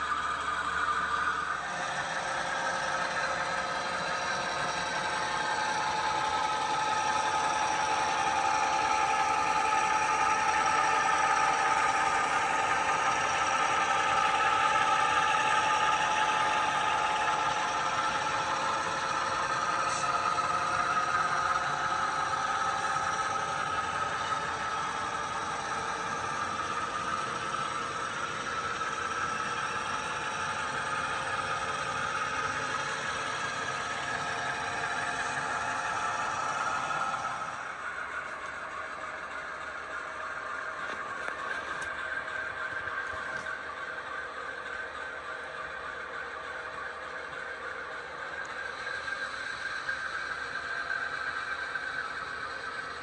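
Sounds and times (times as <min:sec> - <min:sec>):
model locomotive engine sound: 0:00.0 - 0:53.0
model train cars rattling on track: 0:00.0 - 0:53.0.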